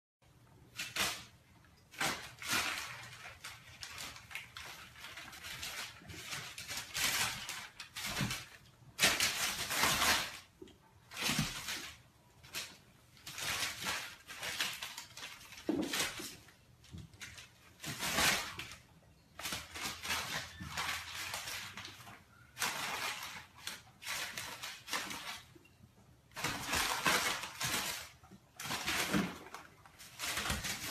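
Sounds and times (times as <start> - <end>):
paper crackling and rustling: 0.6 - 25.6, 26.3 - 30.9.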